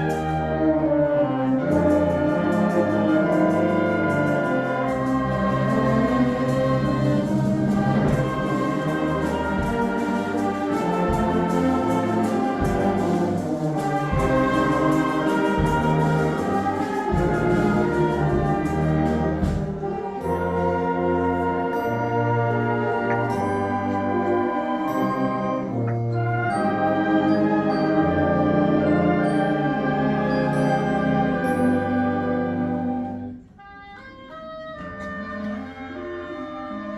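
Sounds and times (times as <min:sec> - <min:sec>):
brass band music: 0:00.0 - 0:36.9.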